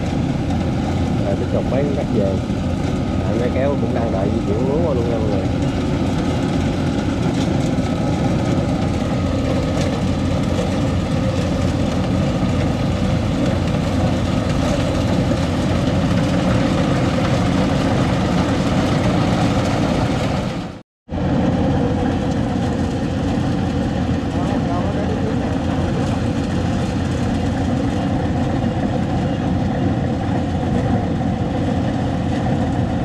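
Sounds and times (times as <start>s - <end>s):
combine harvester engines running: 0.0s - 33.0s.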